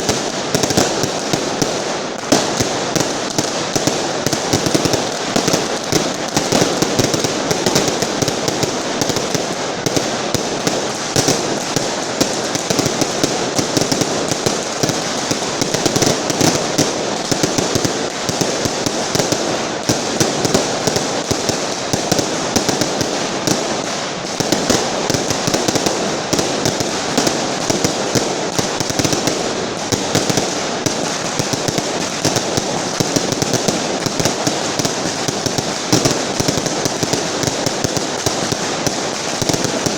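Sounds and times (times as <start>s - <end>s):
firecrackers crackling rapidly: 0.0s - 39.9s.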